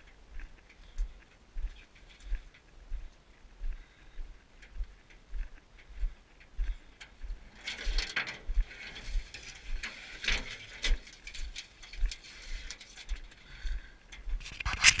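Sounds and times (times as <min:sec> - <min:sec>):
footsteps on a trail: 0:00.0 - 0:15.0.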